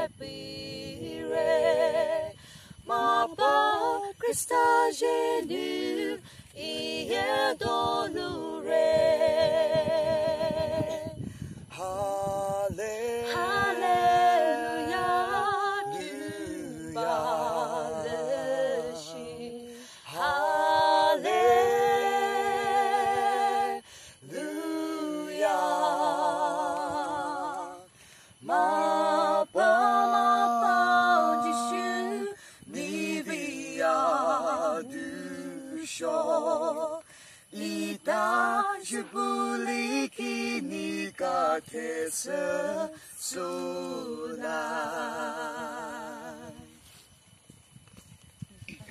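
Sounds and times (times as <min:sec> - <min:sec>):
woman and man singing duet: 0:00.0 - 0:46.8.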